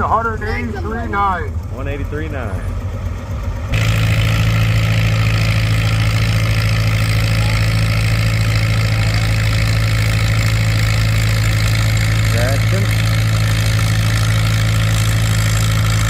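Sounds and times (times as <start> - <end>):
tractor engine running under load: 0.0 - 16.0.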